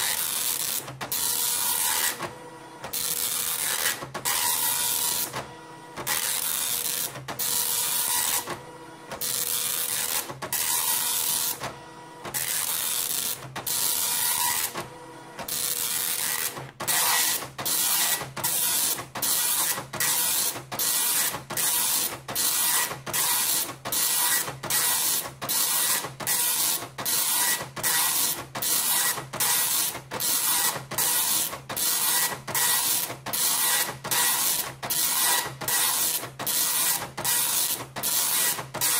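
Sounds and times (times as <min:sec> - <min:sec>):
dot matrix printer printing: 0:00.0 - 0:38.9.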